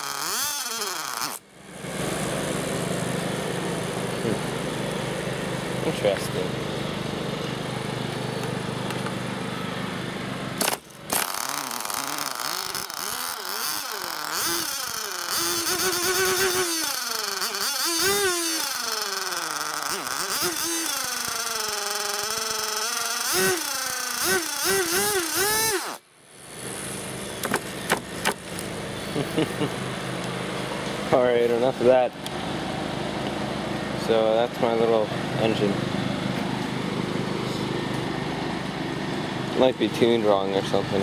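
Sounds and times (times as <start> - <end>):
small two-stroke engine revving: 0.0 - 41.0.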